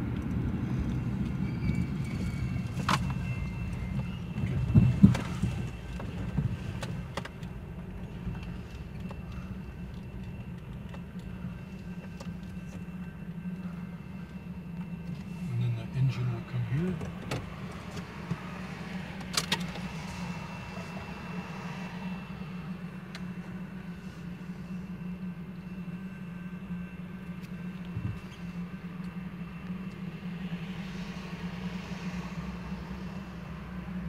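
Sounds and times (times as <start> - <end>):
car engine hum from inside: 0.0 - 34.0.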